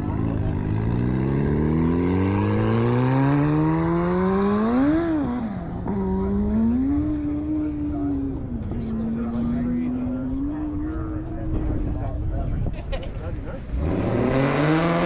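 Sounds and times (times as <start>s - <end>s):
motorcycle accelerating hard: 0.0s - 11.8s, 13.6s - 15.0s.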